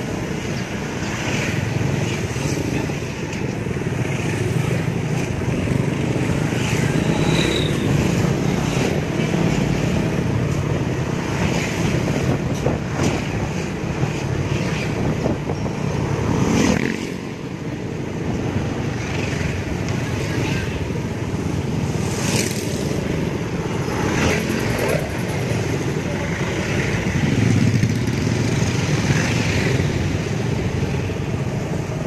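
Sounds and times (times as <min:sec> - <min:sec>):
passing vehicles: 0:00.0 - 0:32.0
road noise: 0:00.0 - 0:32.0.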